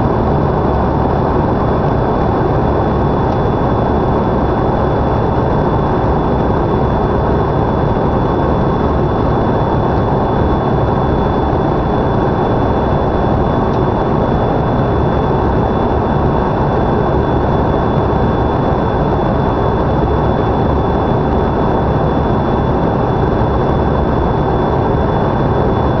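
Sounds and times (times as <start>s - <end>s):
faint high whine: 0.0s - 26.0s
jet cabin airflow and engine rush: 0.0s - 26.0s.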